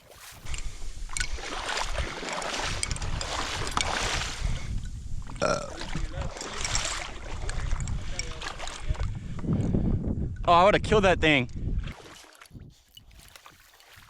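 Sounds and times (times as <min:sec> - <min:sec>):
water sloshing and splashing: 0:00.0 - 0:09.8, 0:11.5 - 0:14.0
wind rumble on microphone: 0:00.4 - 0:13.3.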